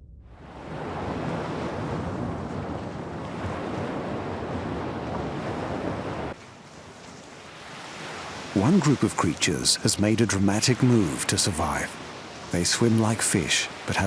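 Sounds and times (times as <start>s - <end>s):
wind: 0.0s - 14.0s
ocean surf: 0.4s - 14.0s.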